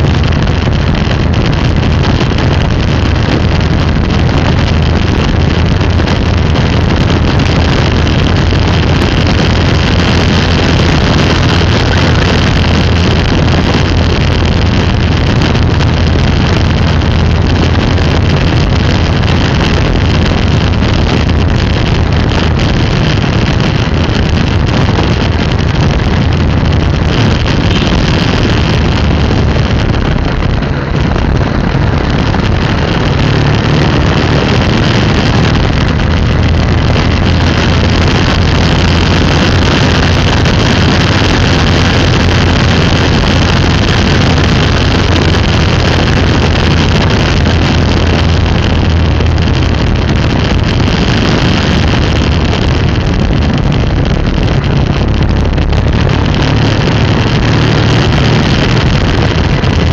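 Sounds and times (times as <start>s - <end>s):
low vehicle drone: 0.0s - 59.9s
wind rushing on microphone: 0.0s - 59.9s.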